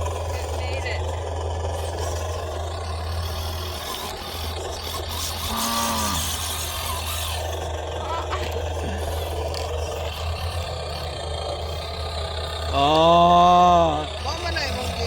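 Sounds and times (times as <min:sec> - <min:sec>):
simulated diesel engine drone: 0:00.0 - 0:15.0.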